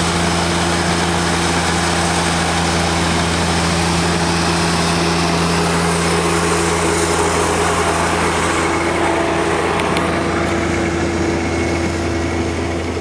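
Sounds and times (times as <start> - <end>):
snowblower hiss: 0.0 - 11.9
tractor engine drone: 0.0 - 13.0.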